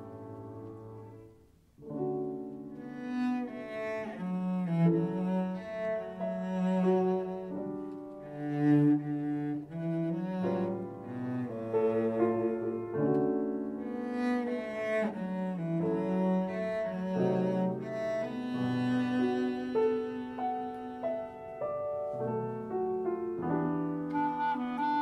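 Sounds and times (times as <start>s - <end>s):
bowed cello melody: 0.0s - 25.0s.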